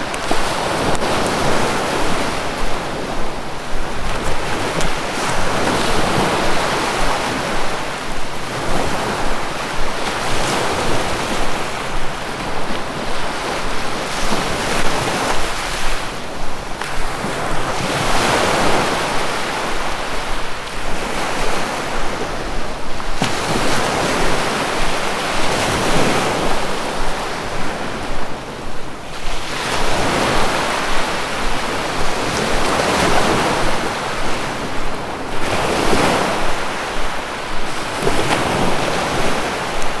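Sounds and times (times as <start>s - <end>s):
sea waves breaking on shore: 0.0s - 40.0s.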